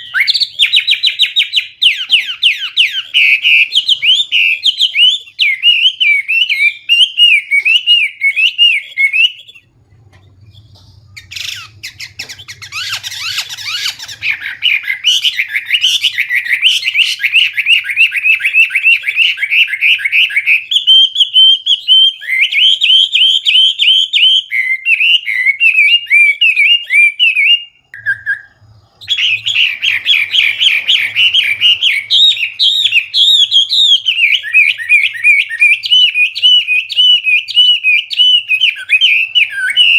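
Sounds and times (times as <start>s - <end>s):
bird singing whistled phrases: 0.0s - 9.7s, 10.4s - 39.9s.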